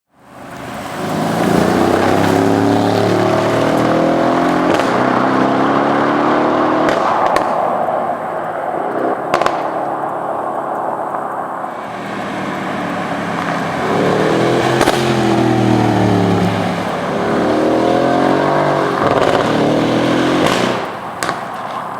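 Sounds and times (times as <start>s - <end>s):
exhaust pops and crackles: 0.2s - 21.9s
car exhaust accelerating: 0.3s - 21.9s.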